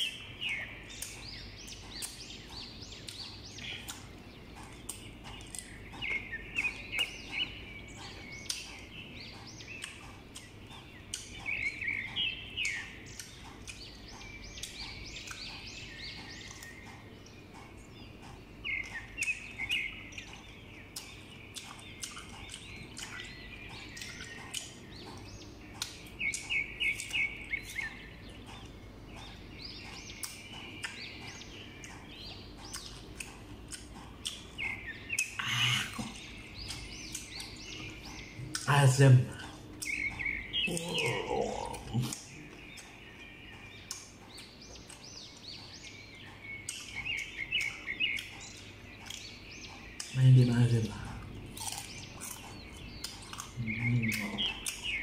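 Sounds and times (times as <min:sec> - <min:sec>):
crunching and chewing mango: 0:00.0 - 0:55.0.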